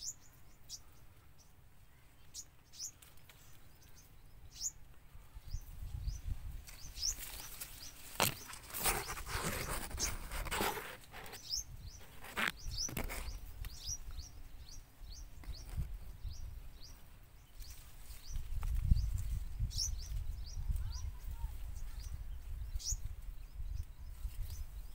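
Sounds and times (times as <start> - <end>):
small bird chirping: 0.0 - 24.9.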